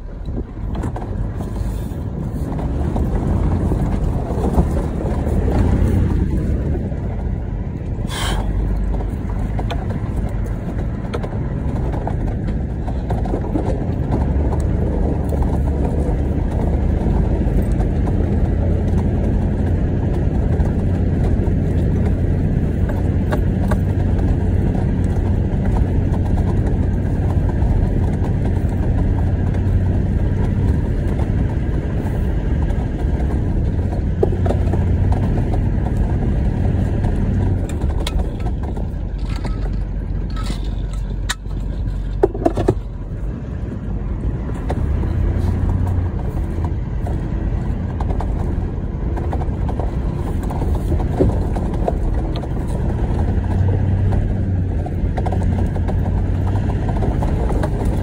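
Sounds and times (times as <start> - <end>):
low engine drone: 0.0 - 58.0
tyres rumbling on stones: 0.0 - 58.0.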